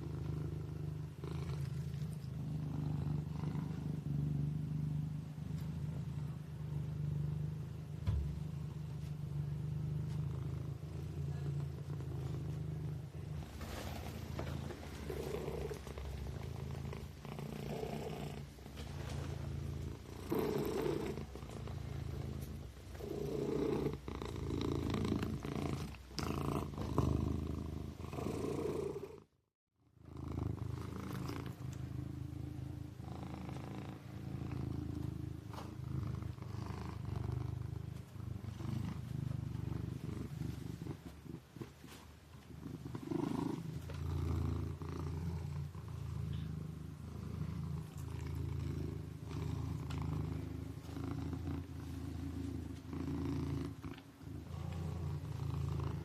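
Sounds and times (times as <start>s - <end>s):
kitten purring: 0.0s - 29.4s, 30.0s - 56.0s.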